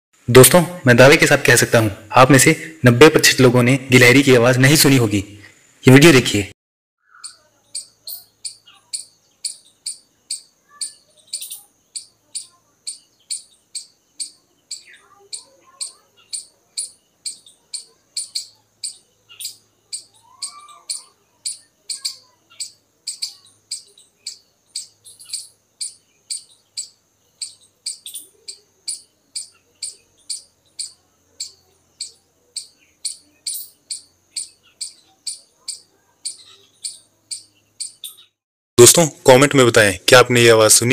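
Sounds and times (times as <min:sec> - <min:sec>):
squirrel chirping: 0:07.0 - 0:39.9.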